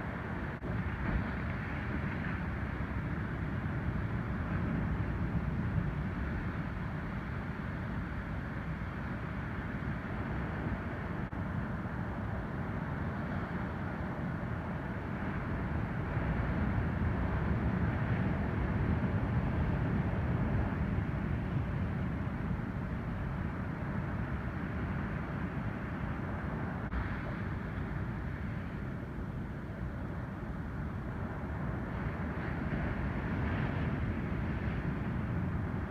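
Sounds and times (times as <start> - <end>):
waves breaking on beach: 0.0 - 35.9.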